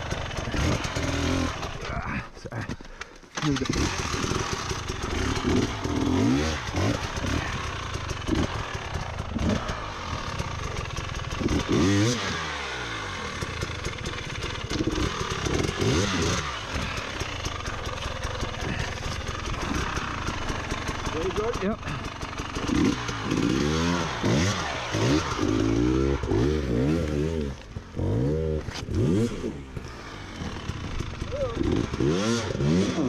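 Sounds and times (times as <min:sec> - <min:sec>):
dirt bike engine revving: 0:00.0 - 0:02.1, 0:03.4 - 0:33.0.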